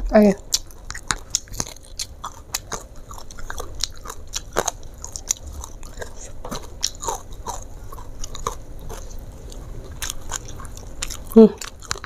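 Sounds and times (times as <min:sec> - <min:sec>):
chewing crispy fried chicken: 0:00.4 - 0:12.0.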